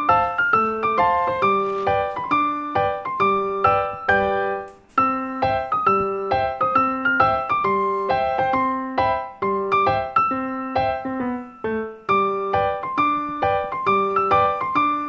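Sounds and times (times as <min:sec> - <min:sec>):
piano broken chords: 0:00.0 - 0:15.0.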